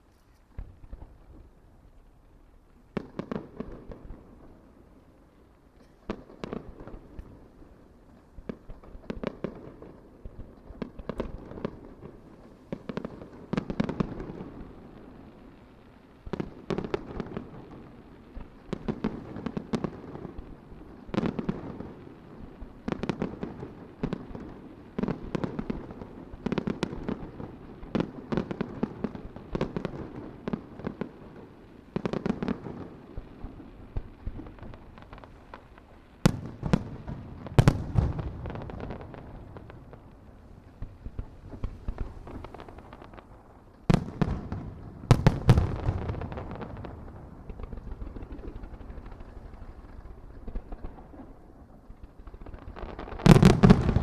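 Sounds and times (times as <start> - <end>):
fireworks bursting with bangs: 0.0 - 54.0
fireworks crackling: 0.0 - 54.0.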